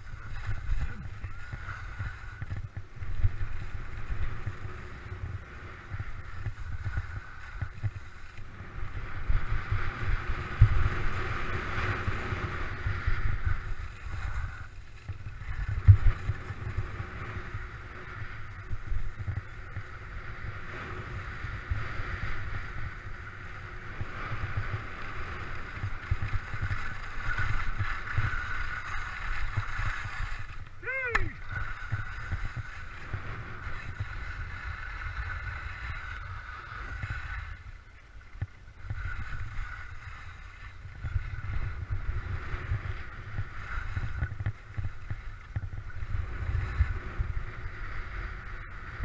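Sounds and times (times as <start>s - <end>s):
wind buffeting microphone: 0.0s - 37.8s, 38.4s - 49.0s
skis scraping on packed snow: 0.0s - 49.0s.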